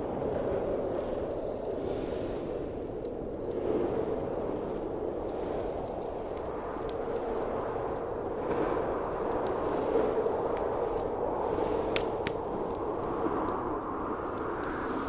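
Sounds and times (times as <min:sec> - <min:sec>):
blizzard wind howling: 0:00.0 - 0:15.0
wood fire crackling: 0:00.0 - 0:15.0.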